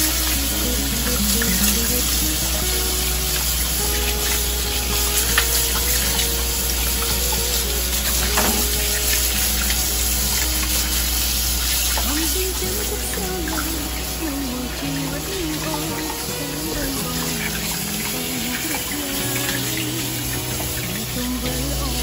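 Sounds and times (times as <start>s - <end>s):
faucet running into basin: 0.0s - 22.0s.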